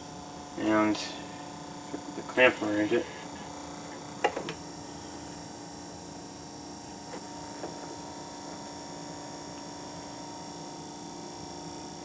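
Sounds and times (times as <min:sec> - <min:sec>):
small motor humming: 0:00.0 - 0:12.0.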